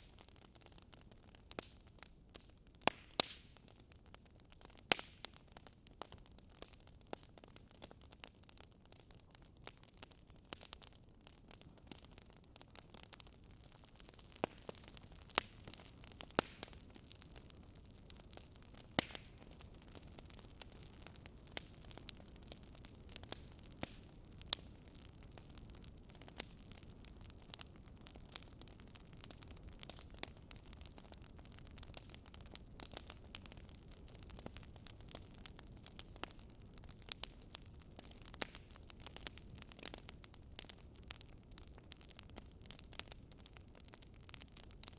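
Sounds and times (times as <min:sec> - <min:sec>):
fire crackling and popping: 0:00.0 - 0:44.9
low steady hiss: 0:00.0 - 0:44.9.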